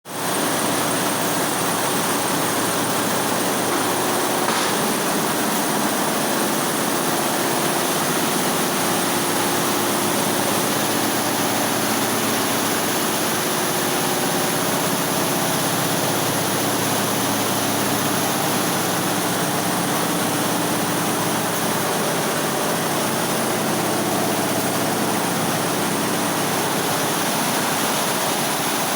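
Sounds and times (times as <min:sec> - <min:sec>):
machine running: 0:00.2 - 0:28.9.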